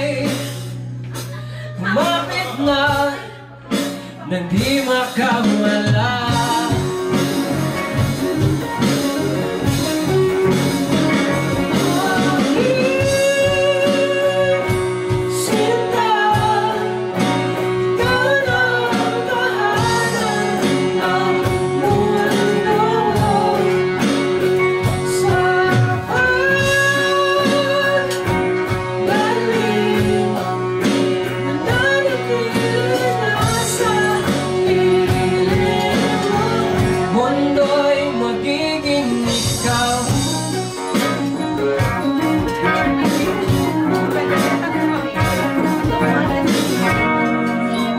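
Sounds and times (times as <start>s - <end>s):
live band with guitars and drums: 0.0s - 47.9s
male lead vocal: 0.0s - 47.9s.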